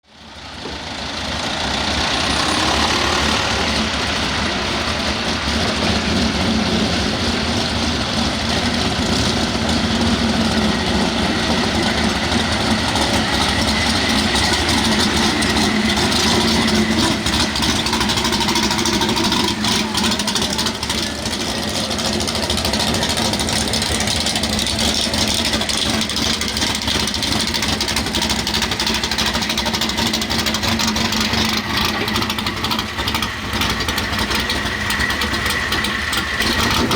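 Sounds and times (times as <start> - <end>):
truck engine running loud: 0.0 - 36.9.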